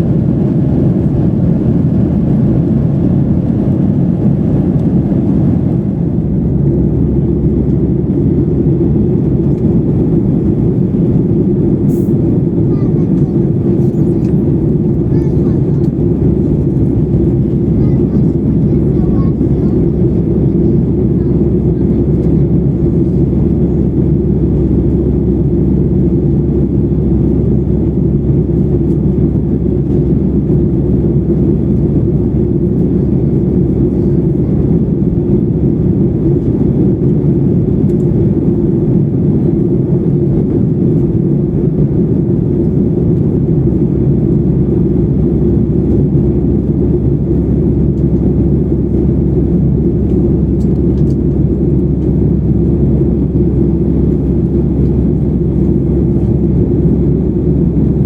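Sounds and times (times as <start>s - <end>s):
airflow over fuselage: 0.0s - 58.0s
jet engines rumbling: 0.0s - 58.0s.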